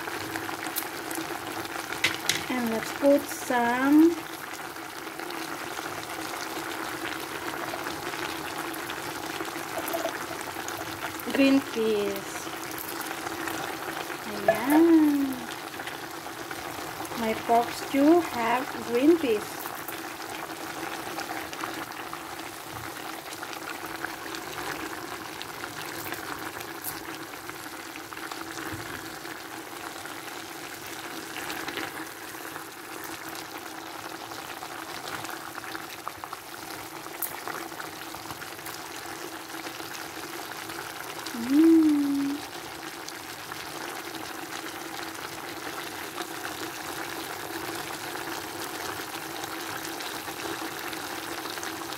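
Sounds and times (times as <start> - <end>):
stew bubbling and sizzling: 0.0 - 51.9.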